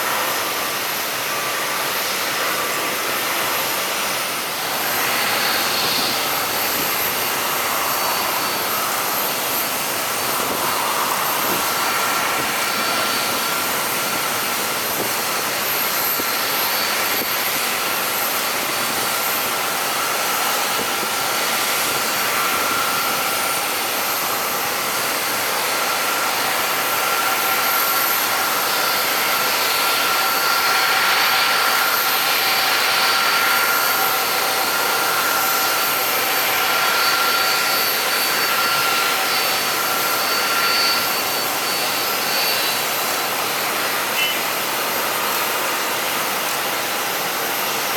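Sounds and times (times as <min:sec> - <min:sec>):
high turbine whine: 0:00.0 - 0:47.9
jet engines rushing: 0:00.0 - 0:47.9.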